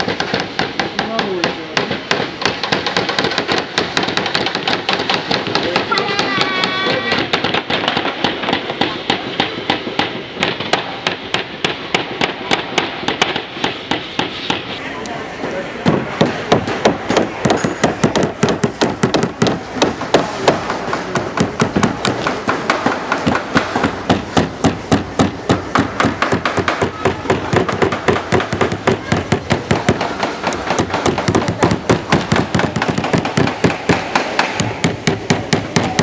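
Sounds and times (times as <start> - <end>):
hammers knocking nails into wood: 0.0 - 14.7, 15.8 - 36.0.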